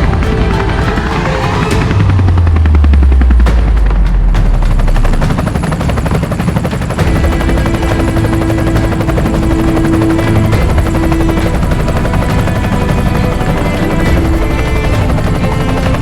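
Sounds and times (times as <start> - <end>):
helicopter engine: 0.0 - 16.0
helicopter rotor chopping: 0.0 - 16.0.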